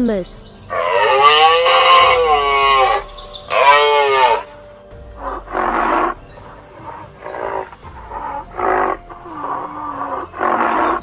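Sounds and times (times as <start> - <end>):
hippopotamus grunts: 0.7 - 4.5, 5.2 - 11.0
hippopotamus call: 0.7 - 4.6, 5.2 - 11.0.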